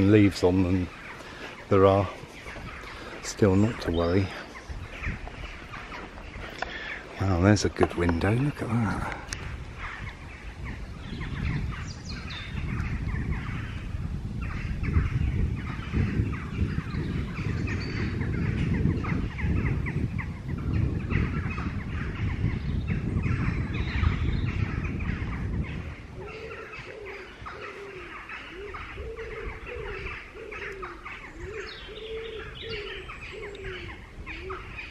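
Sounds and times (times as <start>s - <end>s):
birds calling: 0.0s - 34.9s.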